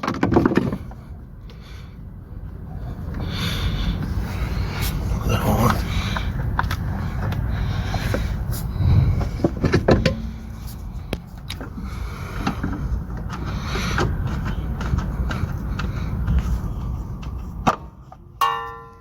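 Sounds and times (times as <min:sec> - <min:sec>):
steady low rumble: 0:00.7 - 0:17.6.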